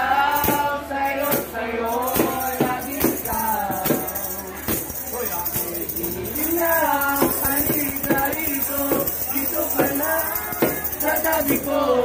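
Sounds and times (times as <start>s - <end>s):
jingling tambourine: 0.0s - 12.0s
men singing together: 0.0s - 12.0s.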